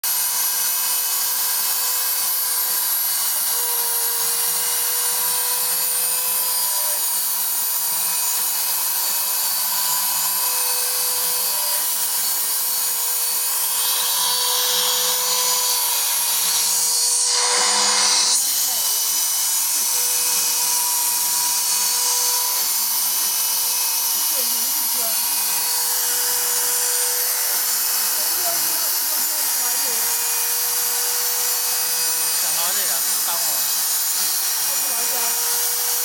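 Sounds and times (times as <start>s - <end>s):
cnc spindle running: 0.1s - 36.0s.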